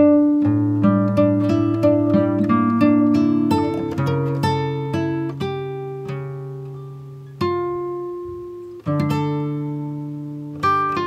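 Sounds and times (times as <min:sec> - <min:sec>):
slow acoustic guitar music: 0:00.0 - 0:11.0.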